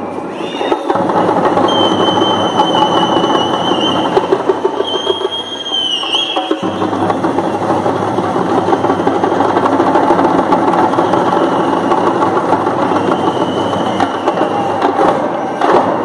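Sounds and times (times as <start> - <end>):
frame drums beaten with sticks: 0.6 - 16.0.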